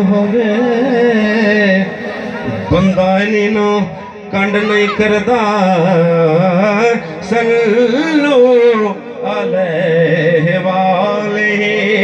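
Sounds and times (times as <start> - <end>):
man singing through a microphone: 0.0 - 12.0.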